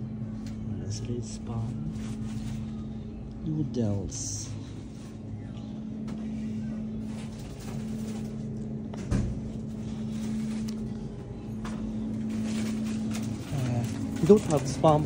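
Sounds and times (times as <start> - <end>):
refrigerated display cases humming: 0.0 - 15.0.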